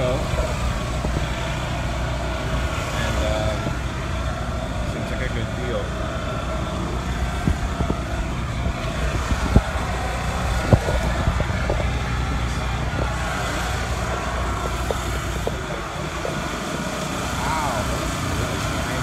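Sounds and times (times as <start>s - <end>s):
vehicles rumbling: 0.0s - 19.0s.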